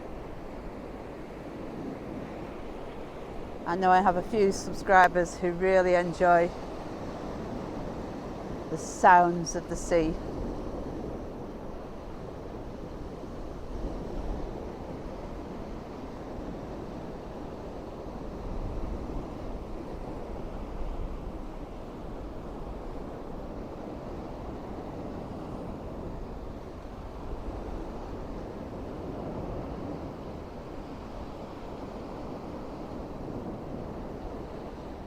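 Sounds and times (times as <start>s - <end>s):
waves washing on shore: 0.0s - 35.0s
wind rumbling on microphone: 0.0s - 35.0s.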